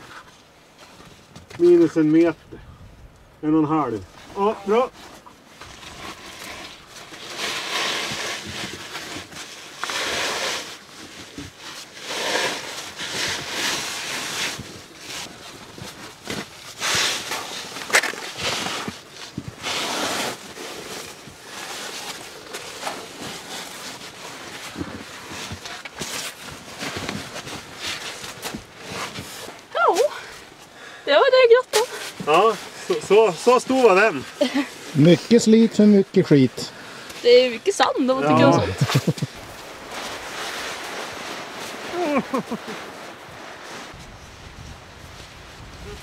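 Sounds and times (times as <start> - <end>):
suit rustling and scraping on rock: 4.0 - 46.0.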